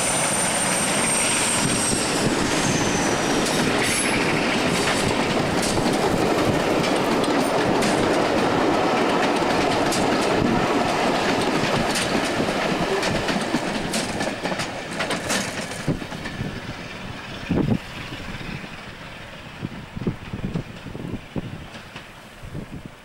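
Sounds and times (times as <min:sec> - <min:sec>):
diesel train rolling past: 0:00.0 - 0:23.0
wheels clicking over rail joints: 0:03.4 - 0:22.4.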